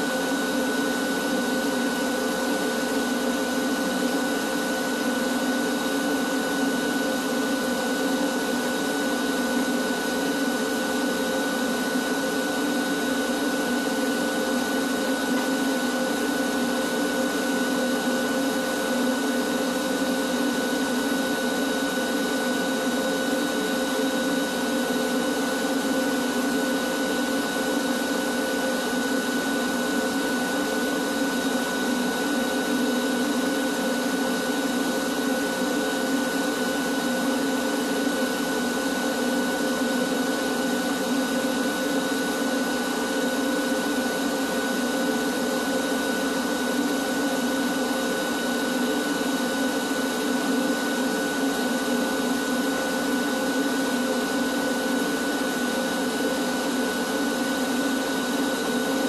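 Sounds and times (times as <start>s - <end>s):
shop vacuum whining: 0.0s - 59.0s.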